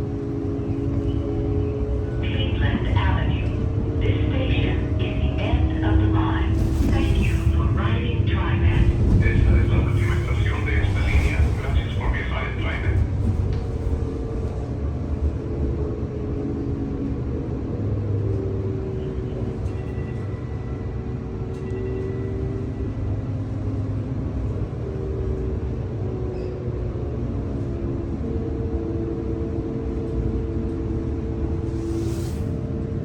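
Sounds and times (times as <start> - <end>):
light-rail train rumbling: 0.0 - 33.0.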